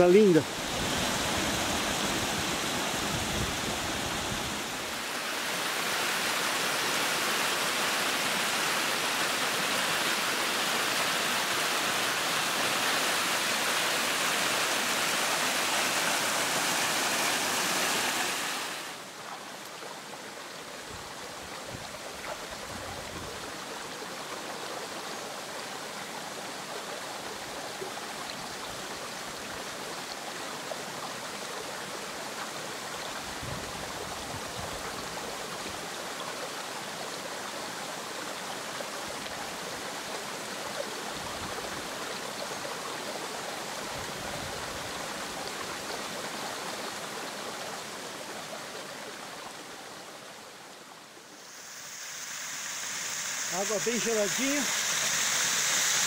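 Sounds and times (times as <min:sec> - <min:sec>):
water rushing over rocks: 0:00.0 - 0:24.7, 0:29.0 - 0:56.0.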